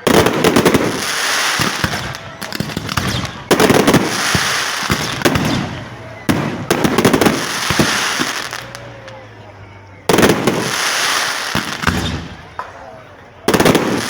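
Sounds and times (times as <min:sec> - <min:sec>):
fireworks crackling hiss: 0:00.0 - 0:09.3, 0:10.1 - 0:14.0
fireworks bangs: 0:00.0 - 0:14.0.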